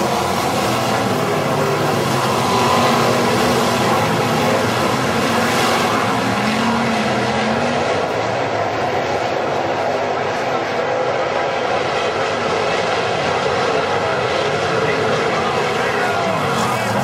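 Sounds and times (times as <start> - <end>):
racing car engines roaring: 0.0 - 17.0.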